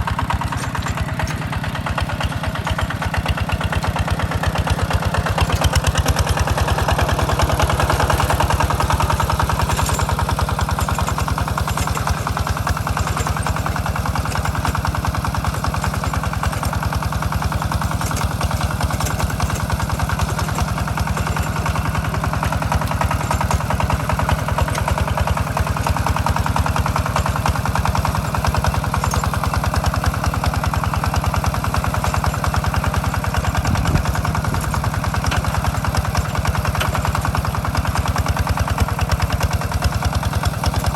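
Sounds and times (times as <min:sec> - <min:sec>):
walking tractor engine running: 0:00.0 - 0:40.9.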